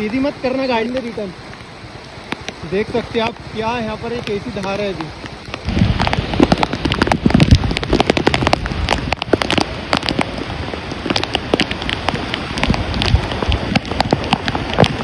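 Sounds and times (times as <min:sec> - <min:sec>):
rain pattering on microphone: 0:00.0 - 0:15.0
river rushing: 0:00.0 - 0:15.0.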